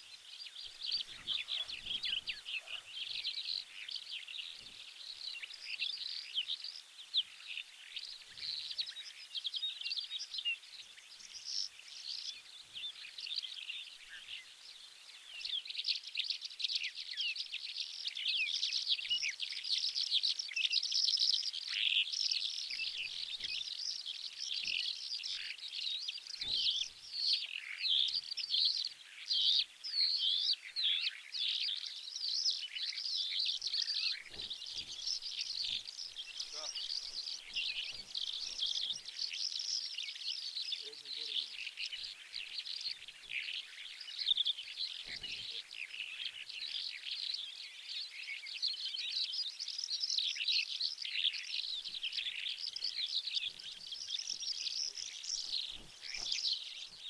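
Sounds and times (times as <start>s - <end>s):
songbirds singing and twittering: 0.0s - 57.0s.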